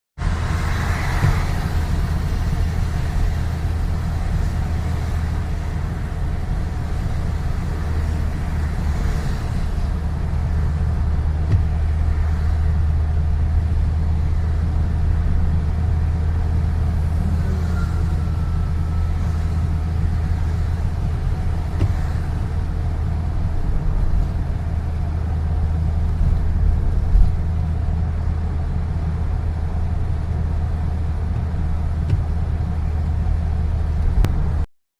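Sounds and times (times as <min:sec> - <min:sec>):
car engine and tyre rumble: 0:00.2 - 0:34.7.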